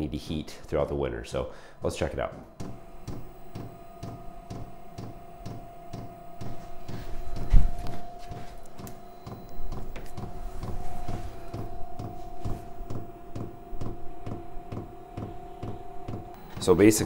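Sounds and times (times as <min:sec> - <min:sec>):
motor whine: 0:00.0 - 0:17.0.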